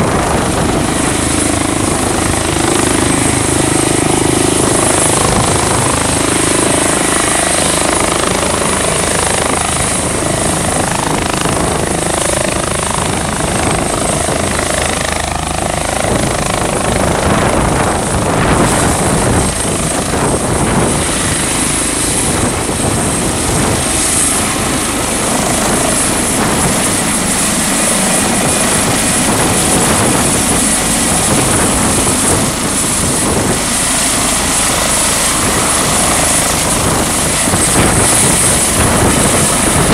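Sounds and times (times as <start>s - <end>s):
helicopter hovering: 0.0s - 39.9s
high turbine whine: 0.0s - 39.9s.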